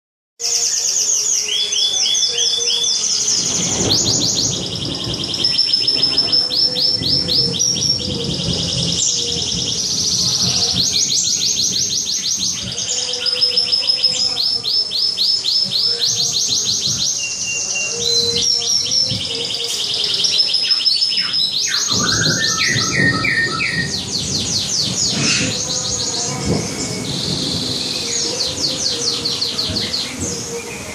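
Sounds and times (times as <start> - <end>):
canary singing trills: 0.4 - 30.9.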